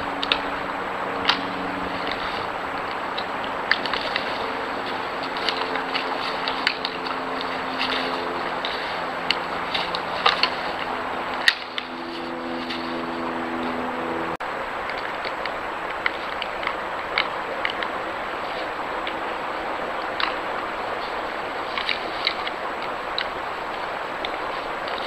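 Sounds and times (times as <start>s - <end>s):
low hum and hiss: 0.0s - 25.0s.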